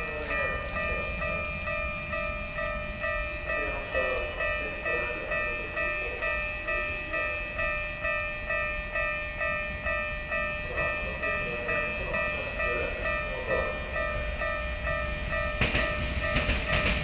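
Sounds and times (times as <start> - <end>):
approaching train rumble: 0.0 - 17.0
level crossing alarm ringing: 0.0 - 17.0.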